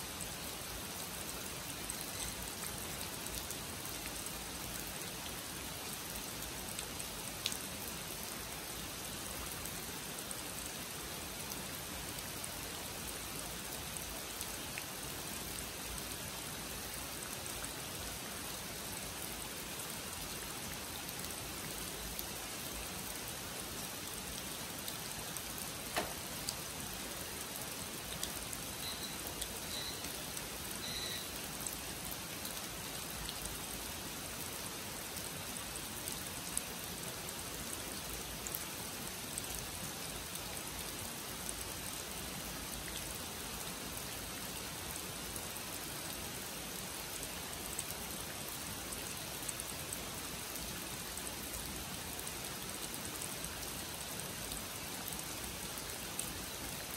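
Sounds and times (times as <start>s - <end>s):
heavy rain on pond and leaves: 0.0s - 56.9s.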